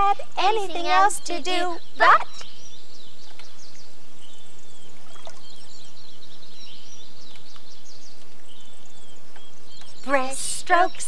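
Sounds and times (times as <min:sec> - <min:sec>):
small birds chirping: 0:00.0 - 0:11.0
steady background hiss: 0:00.0 - 0:11.0.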